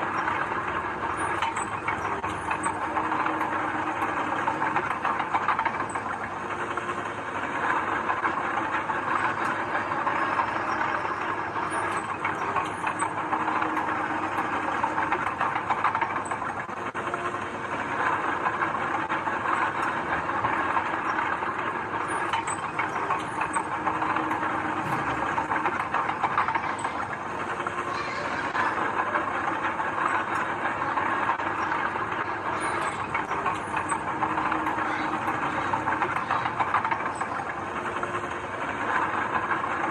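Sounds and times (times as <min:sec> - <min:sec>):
continuous metallic clatter: 0:00.0 - 0:39.9.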